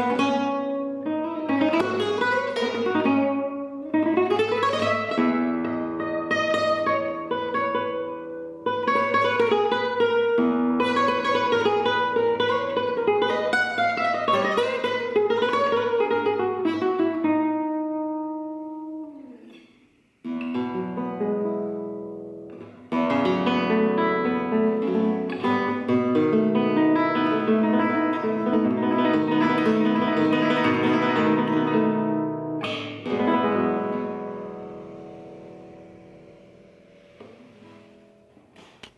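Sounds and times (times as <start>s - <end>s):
flamenco guitar playing: 0.0s - 38.9s.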